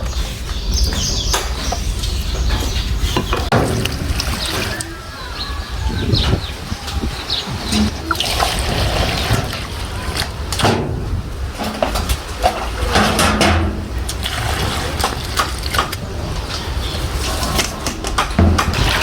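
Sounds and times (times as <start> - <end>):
water splashing and pouring: 3.5 - 19.0.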